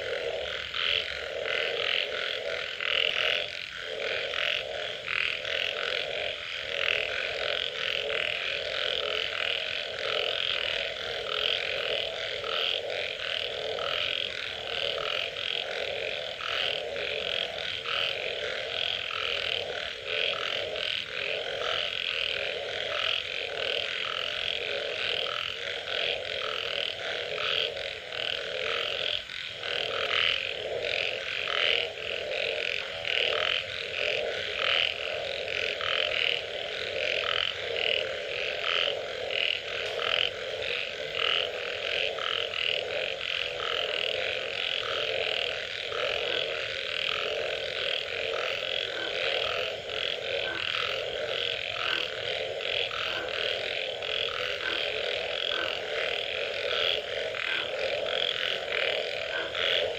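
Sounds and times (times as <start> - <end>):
high pulsed frog calls: 0.0 - 59.9
low frog croaking: 0.0 - 59.9.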